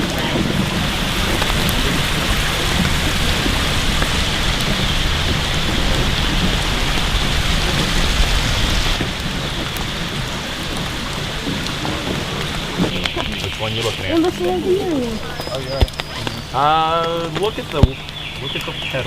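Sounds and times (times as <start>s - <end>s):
heavy low rumble: 0.0s - 19.0s
steady rain hiss: 0.0s - 19.0s.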